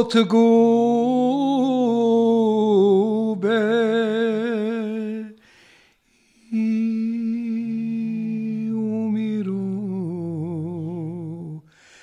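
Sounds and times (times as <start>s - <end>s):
man singing unaccompanied: 0.0s - 5.4s, 6.4s - 11.8s.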